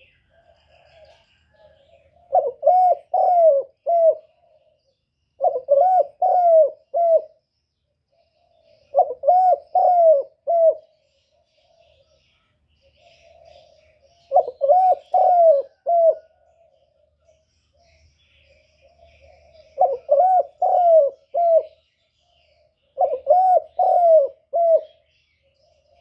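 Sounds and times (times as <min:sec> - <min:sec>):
pigeon cooing: 0:00.0 - 0:04.8, 0:05.4 - 0:07.4, 0:08.4 - 0:12.2, 0:12.8 - 0:26.0.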